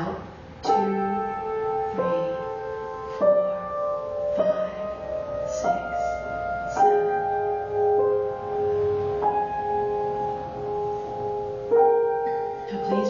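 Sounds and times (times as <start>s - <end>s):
slow keyboard melody: 0.0s - 13.0s.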